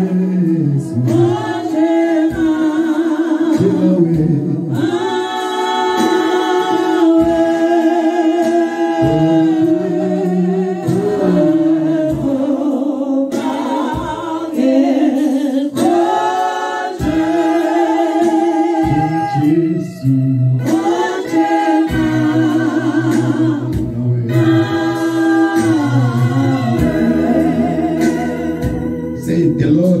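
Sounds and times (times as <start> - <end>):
women singing gospel song: 0.0 - 29.6.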